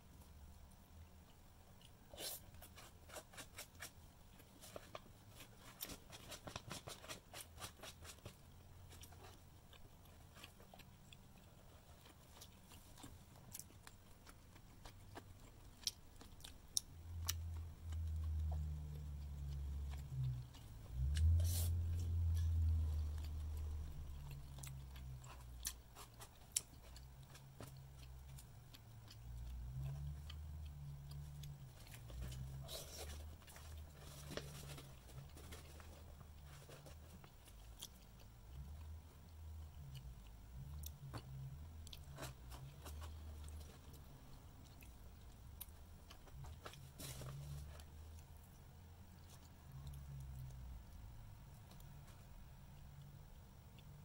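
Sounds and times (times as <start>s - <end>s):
person chewing: 7.8s - 39.0s, 39.6s - 53.1s.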